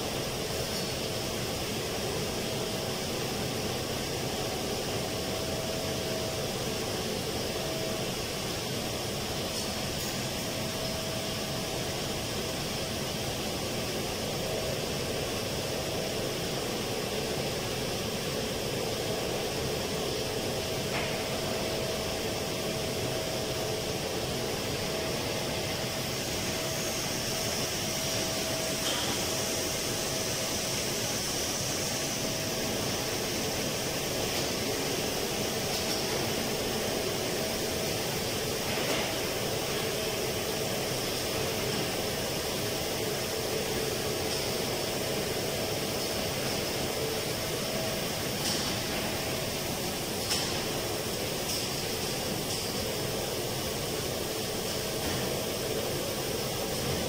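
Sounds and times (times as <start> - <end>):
air-conditioning machinery hum: 0.0 - 57.0.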